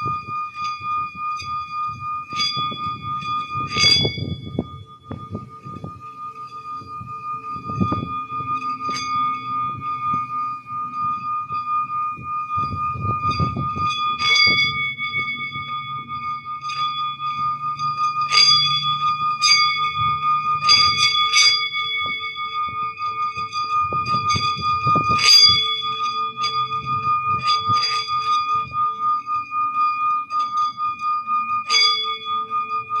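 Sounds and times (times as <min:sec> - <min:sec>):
lower ringing tone: 0:00.0 - 0:33.0
ringing bell tones: 0:00.0 - 0:33.0.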